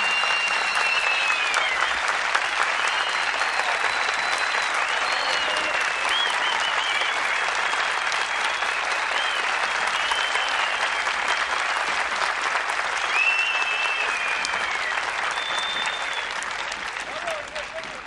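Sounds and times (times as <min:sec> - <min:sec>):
high whistles: 0:00.0 - 0:11.6, 0:13.0 - 0:16.8
audience applauding: 0:00.0 - 0:18.0.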